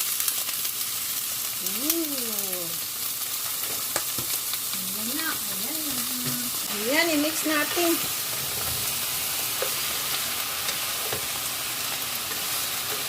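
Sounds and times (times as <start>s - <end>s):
squid sizzling in hot oil: 0.0s - 13.0s.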